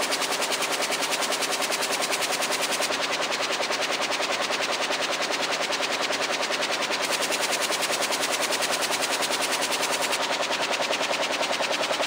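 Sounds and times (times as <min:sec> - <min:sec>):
loom mechanical clatter: 0:00.0 - 0:12.0.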